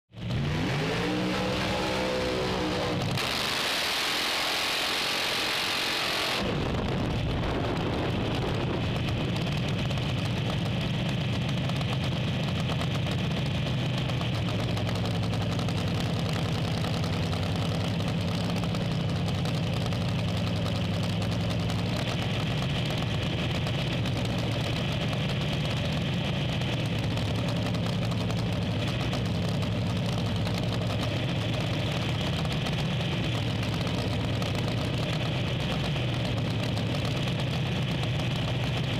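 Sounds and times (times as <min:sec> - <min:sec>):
race car engine idling: 0:06.4 - 0:38.9.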